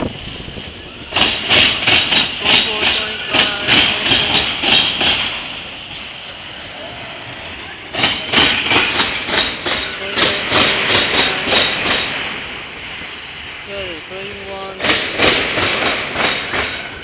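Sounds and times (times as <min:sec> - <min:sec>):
freight train rolling past: 0:00.0 - 0:17.0
wheels clicking over rail joints: 0:00.0 - 0:17.0.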